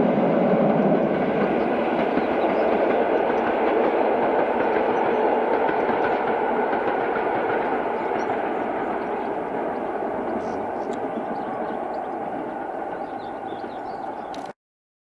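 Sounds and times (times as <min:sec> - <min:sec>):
train wheels clattering on rails: 0:00.0 - 0:14.6.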